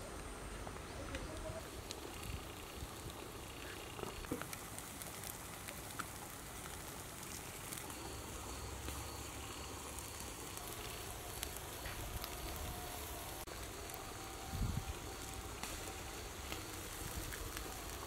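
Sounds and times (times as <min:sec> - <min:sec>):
charcoal fire crackling and popping: 0:00.0 - 0:18.0
steady outdoor background hiss: 0:00.0 - 0:18.0.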